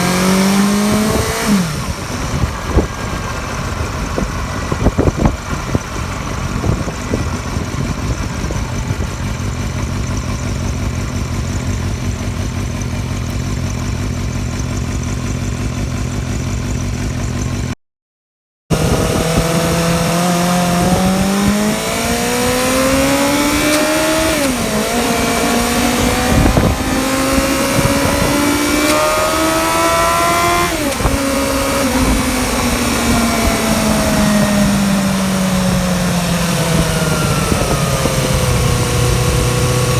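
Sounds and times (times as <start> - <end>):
motorcycle engine accelerating: 0.0 - 17.8, 18.7 - 39.9.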